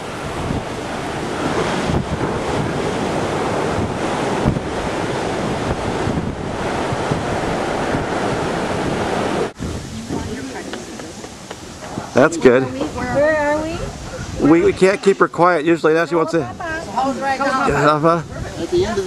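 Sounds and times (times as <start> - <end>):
ocean surf breaking on sand: 0.0 - 19.0
wind buffeting microphone: 0.0 - 19.0.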